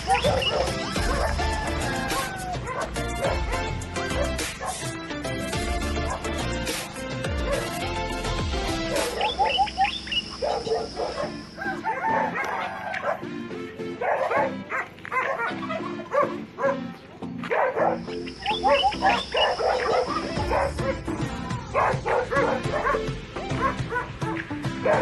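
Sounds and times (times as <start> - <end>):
dog barking and yapping: 0.0 - 4.9, 6.0 - 6.4, 7.4 - 7.8, 8.9 - 13.3, 14.0 - 25.0
background music: 0.0 - 25.0.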